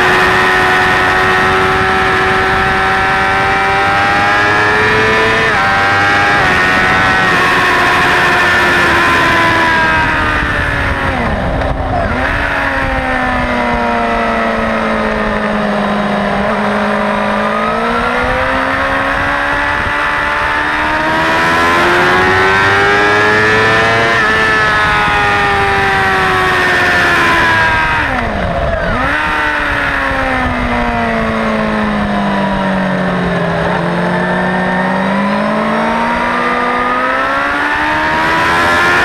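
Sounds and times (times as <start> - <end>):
wind rush: 0.0 - 36.4
motorcycle engine revving: 0.0 - 39.0.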